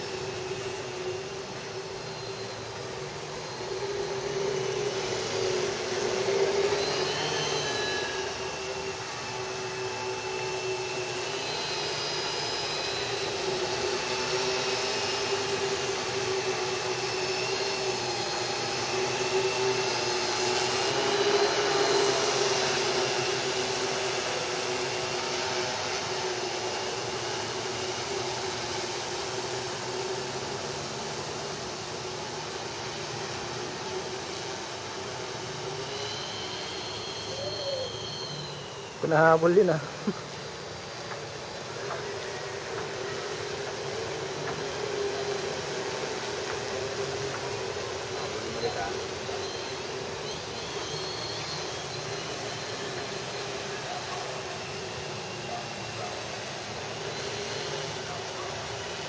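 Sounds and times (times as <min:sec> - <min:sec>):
drone motors buzzing whine: 0:00.0 - 0:59.0.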